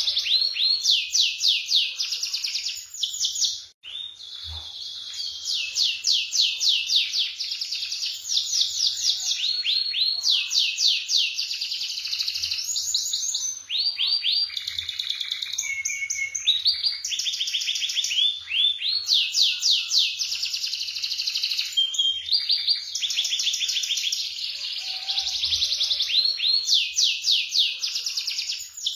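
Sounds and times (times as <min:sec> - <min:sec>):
canary singing trills: 0:00.0 - 0:28.9.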